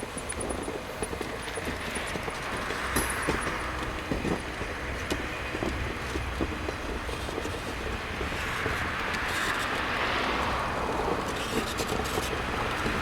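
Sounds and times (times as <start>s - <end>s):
rail grinder grinding hiss: 0.0s - 13.0s.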